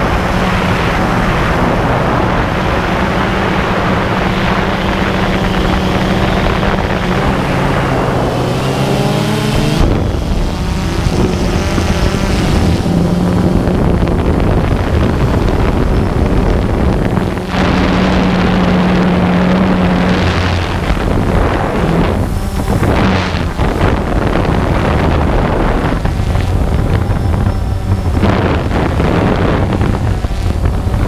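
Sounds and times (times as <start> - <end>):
drone motors humming: 0.0 - 31.0
wind noise on microphone: 0.0 - 31.0.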